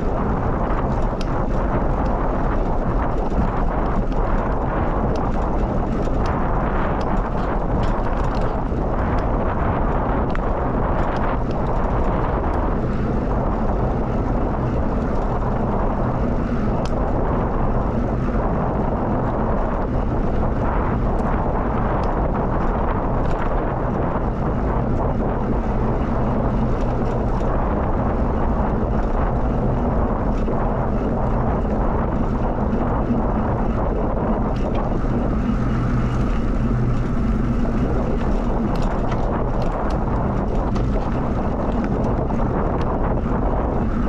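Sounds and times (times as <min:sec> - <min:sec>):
bicycle tyres rolling: 0:00.0 - 0:44.0
wind rushing over microphone: 0:00.0 - 0:44.0.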